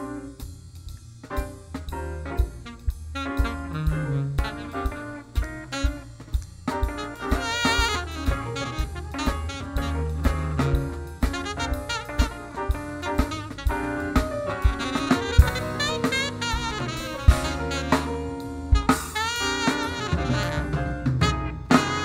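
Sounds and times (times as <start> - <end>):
live blues band playing: 0.0 - 22.0
saxophone melody: 2.4 - 22.0.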